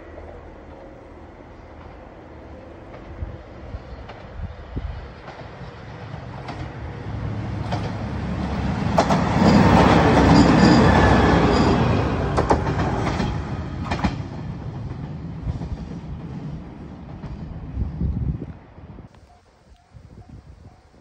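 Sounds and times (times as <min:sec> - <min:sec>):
diesel railcar passing: 0:00.0 - 0:19.4.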